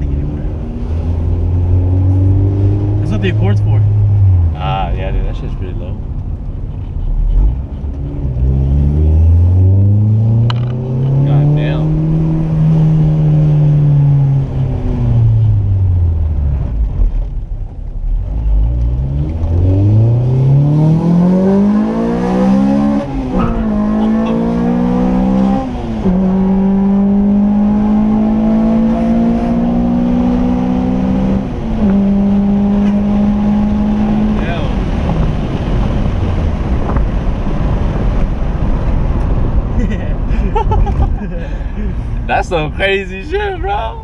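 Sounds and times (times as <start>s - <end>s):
car engine revving through gears: 0.0s - 5.0s, 7.2s - 17.4s, 18.1s - 39.6s.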